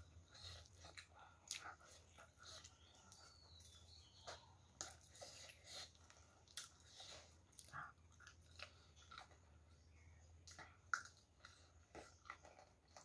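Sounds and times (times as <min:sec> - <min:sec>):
person chewing with wet smacks: 0:00.0 - 0:13.0.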